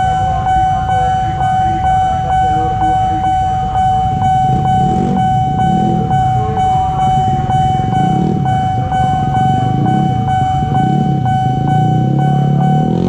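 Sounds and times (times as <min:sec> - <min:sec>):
level crossing alarm tone: 0:00.0 - 0:13.0
motorcycle engines idling: 0:00.0 - 0:13.0.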